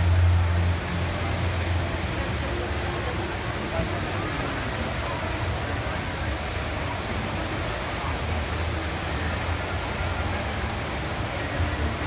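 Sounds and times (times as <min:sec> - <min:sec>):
indoor waterfall pouring: 0:00.0 - 0:12.0.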